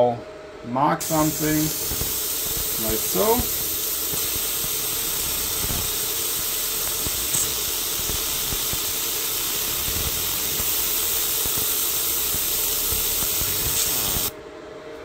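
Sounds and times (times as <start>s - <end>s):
laser marker hissing: 1.0s - 14.3s.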